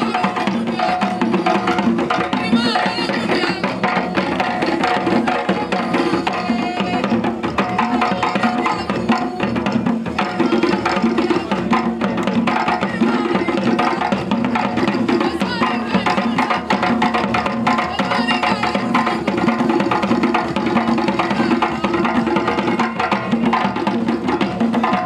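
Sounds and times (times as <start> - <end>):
hand drums in fast rhythm: 0.0 - 25.0
voices singing: 0.0 - 25.0.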